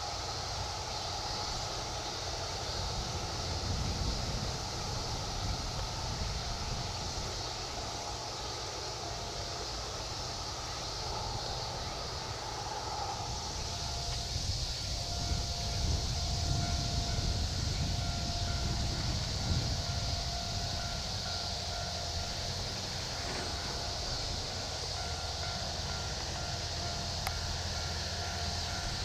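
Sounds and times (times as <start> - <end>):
electric train rumble: 0.0 - 29.0
faint steady whine: 0.0 - 29.0.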